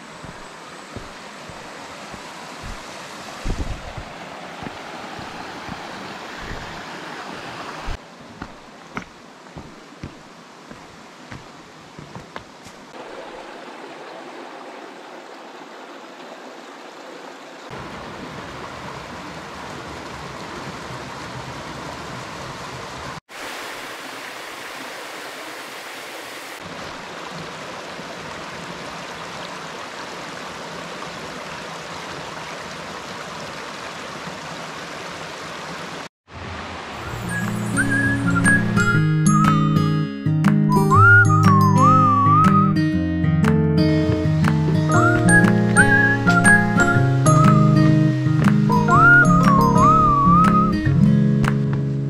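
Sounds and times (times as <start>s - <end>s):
stream flowing over rocks: 0.0s - 39.5s, 44.0s - 50.8s.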